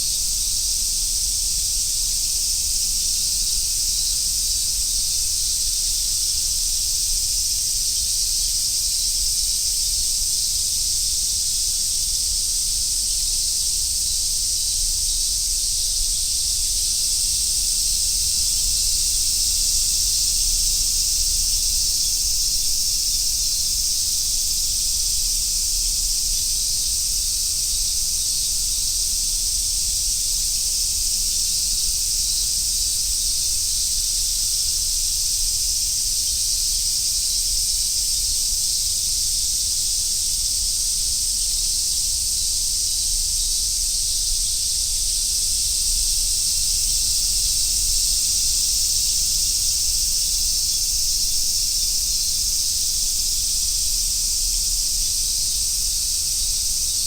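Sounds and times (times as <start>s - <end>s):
cicadas singing in chorus: 0.0s - 57.0s.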